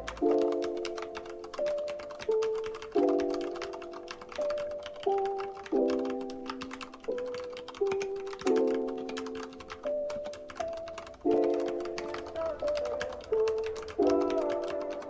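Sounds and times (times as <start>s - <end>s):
mechanical keyboard typing: 0.0s - 15.0s
sustained keyboard chords music: 0.0s - 15.0s.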